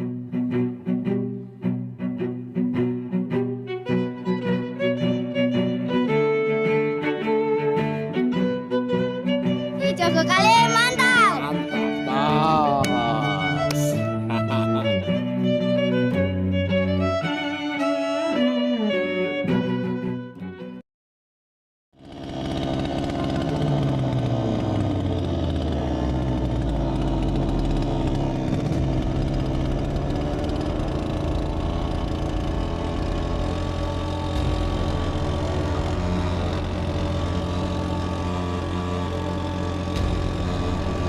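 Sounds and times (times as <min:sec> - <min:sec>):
outboard motor running: 0:03.5 - 0:17.4, 0:22.0 - 0:41.0.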